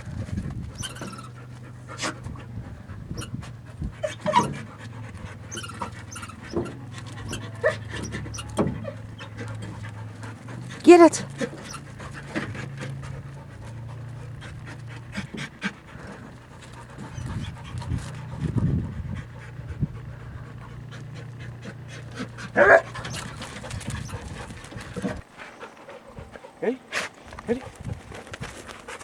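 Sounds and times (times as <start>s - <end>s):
steady low hum: 0.0s - 26.5s
dog panting: 0.0s - 29.0s.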